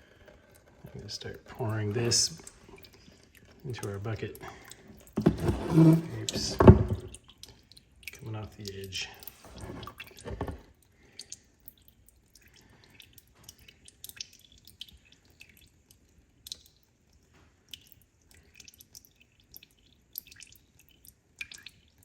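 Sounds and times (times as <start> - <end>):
oil dripping into a bucket: 0.0 - 5.4, 6.0 - 22.0.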